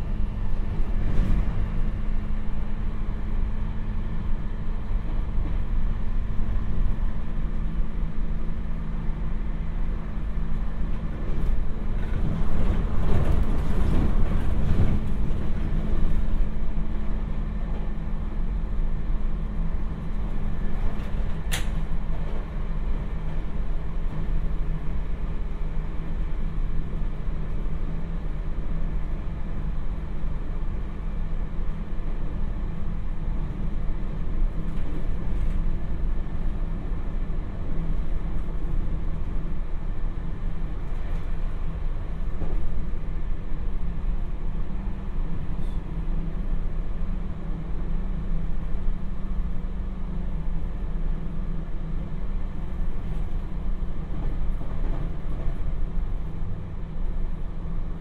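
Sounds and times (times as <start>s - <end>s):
constant hum: 0.0s - 58.0s
train wheels rumbling on rail: 0.0s - 58.0s.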